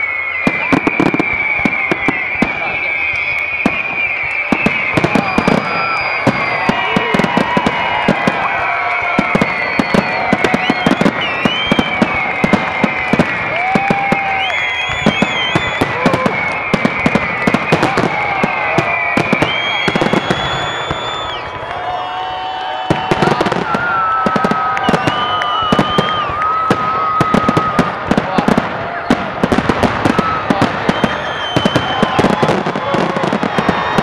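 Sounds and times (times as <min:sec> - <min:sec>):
fireworks bursts and crackling: 0:00.0 - 0:34.0
fireworks whistling: 0:00.0 - 0:34.0.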